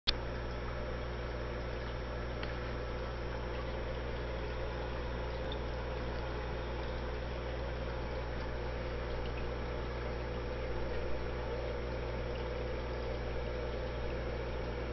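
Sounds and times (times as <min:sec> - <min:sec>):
aquarium pump humming: 0:00.1 - 0:14.9
water bubbling: 0:00.2 - 0:14.9.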